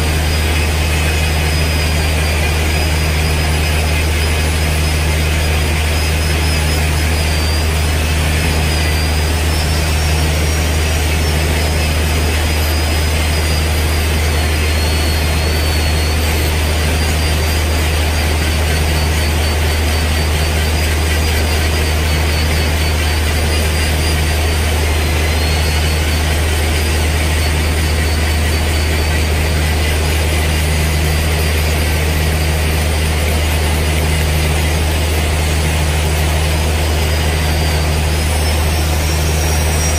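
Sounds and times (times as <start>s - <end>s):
angle grinder grinding metal: 0.0s - 39.9s
steady low drone: 0.0s - 39.9s.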